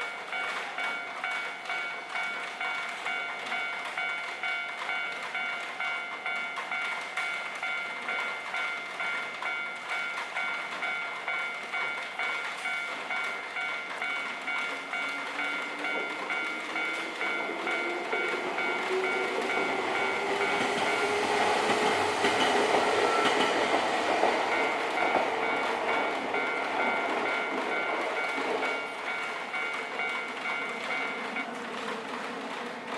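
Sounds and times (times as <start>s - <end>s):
crossing bell dinging: 0.0s - 31.7s
train wheels clattering: 0.0s - 32.9s.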